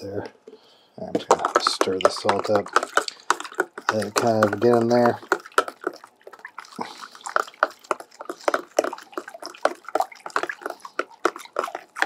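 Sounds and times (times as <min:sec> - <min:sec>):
liquid sloshing in plastic tub: 0:01.0 - 0:12.0.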